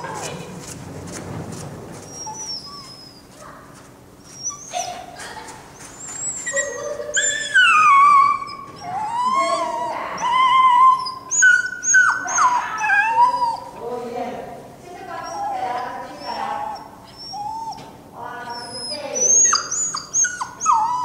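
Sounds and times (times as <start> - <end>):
dog whining and yelping: 2.0 - 13.8, 15.1 - 21.0.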